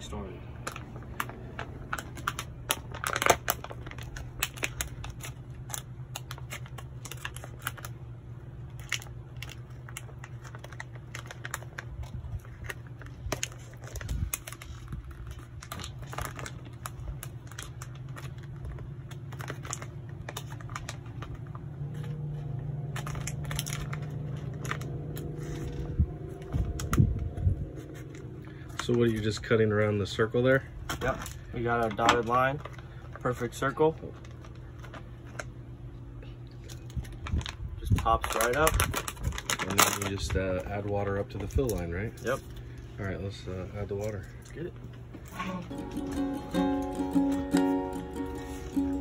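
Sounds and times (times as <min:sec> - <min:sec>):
steady low hum: 0:00.0 - 0:49.0
plastic bag crinkling: 0:00.1 - 0:30.2, 0:30.8 - 0:35.6, 0:36.5 - 0:42.9.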